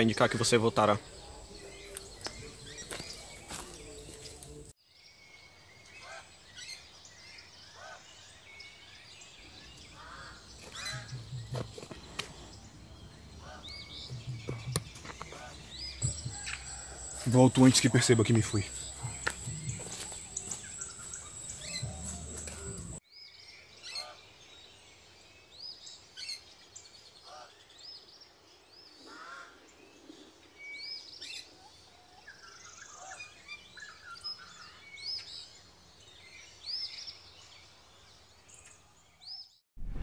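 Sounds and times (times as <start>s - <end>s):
small birds chirping: 0.0s - 39.6s
outdoor noise: 0.0s - 40.0s.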